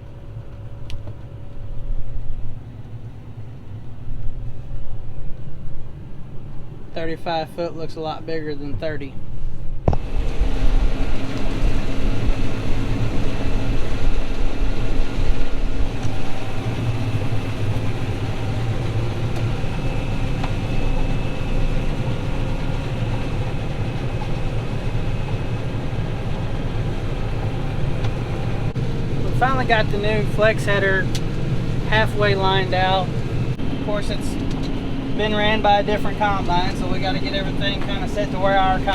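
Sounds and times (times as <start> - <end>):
diesel engine humming: 0.0 - 38.9
faint steady whine: 0.0 - 38.9.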